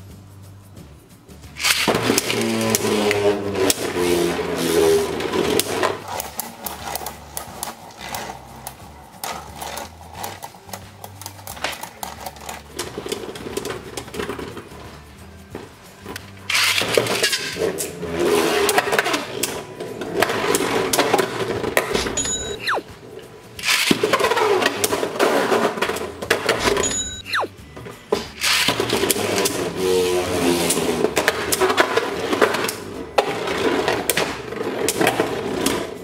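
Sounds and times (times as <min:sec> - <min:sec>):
background music with steady beat: 0:00.0 - 0:36.0
spinning tops clacking: 0:01.2 - 0:36.0.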